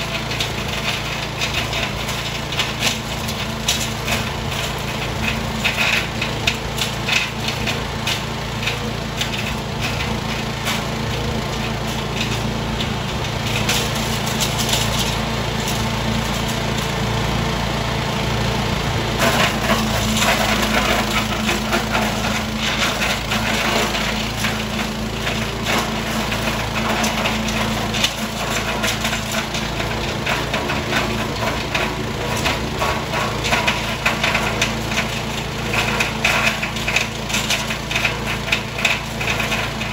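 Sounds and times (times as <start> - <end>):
wood crackling and snapping: 0.0 - 17.1, 19.2 - 39.9
chipper shredder engine running: 0.0 - 39.9.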